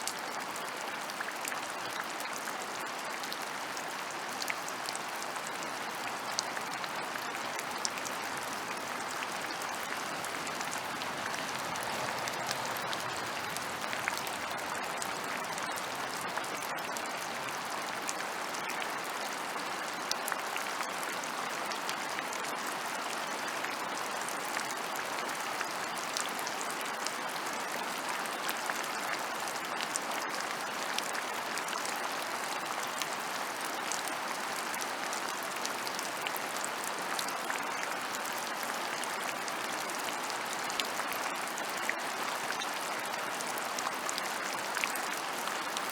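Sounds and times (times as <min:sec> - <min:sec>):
rain falling on ground: 0:00.0 - 0:45.9.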